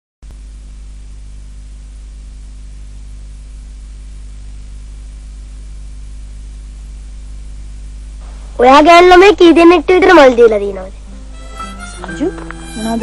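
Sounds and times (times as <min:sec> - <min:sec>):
electrical mains hum: 0:00.2 - 0:13.0
steady hiss: 0:00.3 - 0:13.0.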